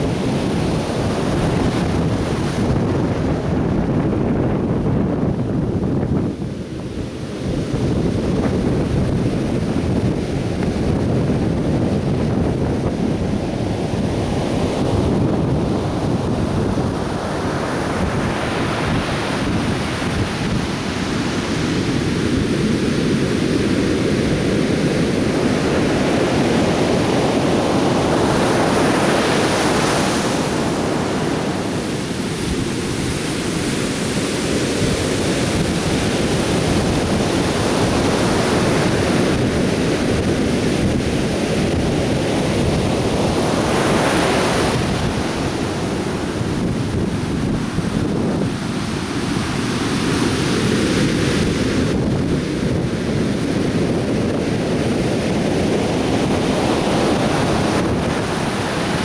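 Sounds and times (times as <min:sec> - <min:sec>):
surf breaking on beach: 0:00.0 - 0:59.0
wind rumble on microphone: 0:00.0 - 0:59.0.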